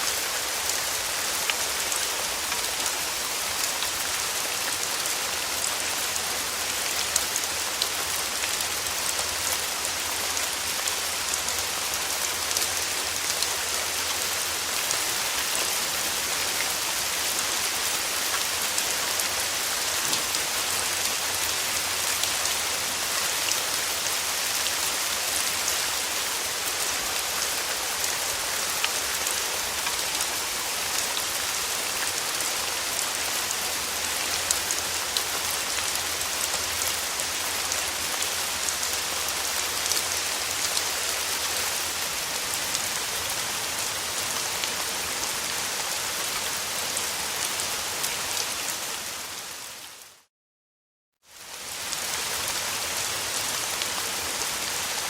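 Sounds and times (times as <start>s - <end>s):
rain falling: 0.0s - 50.3s, 51.3s - 55.0s.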